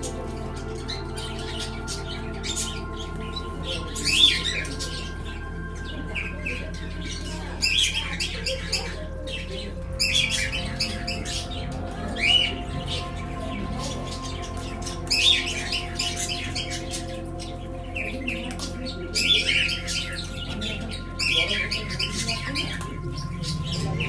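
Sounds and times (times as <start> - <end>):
soft music bed: 0.0 - 24.0
songbirds chirping and squawking: 0.0 - 24.0.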